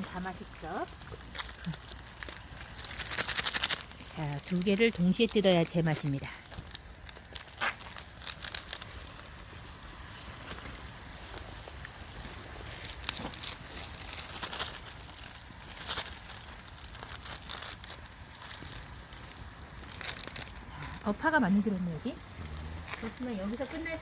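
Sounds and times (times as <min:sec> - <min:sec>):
plastic packets tearing and crinkling: 0:00.0 - 0:24.0.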